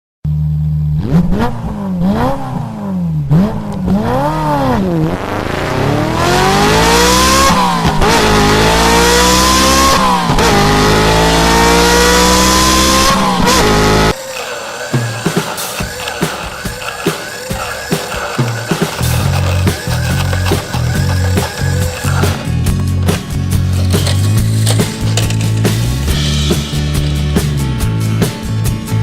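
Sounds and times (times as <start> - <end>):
engine revving and accelerating: 0.8 - 27.6.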